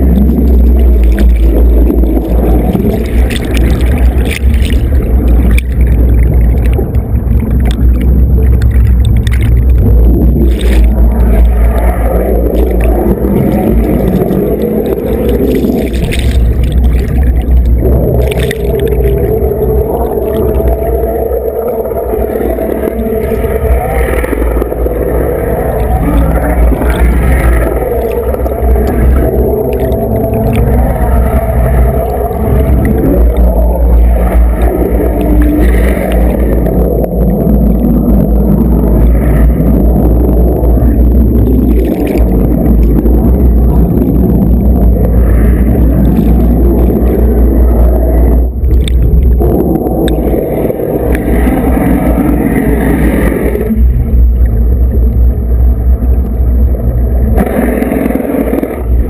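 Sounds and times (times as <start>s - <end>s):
boat engines rumbling underwater: 0.0s - 59.0s
propeller wash and bubbles: 0.0s - 59.0s.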